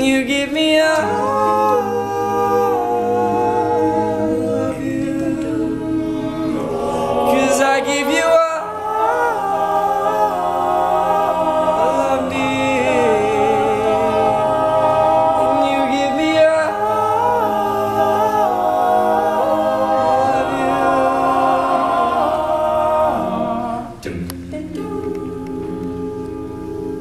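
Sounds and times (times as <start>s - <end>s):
men's a cappella singing: 0.0s - 27.0s.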